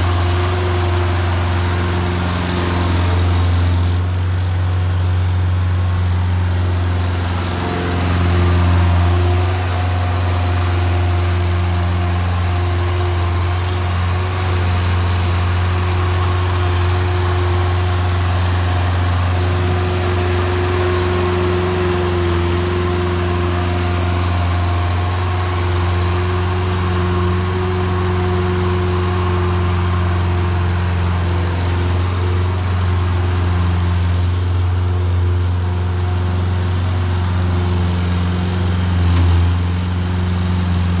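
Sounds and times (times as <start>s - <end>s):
skid steer engine running: 0.0s - 41.0s.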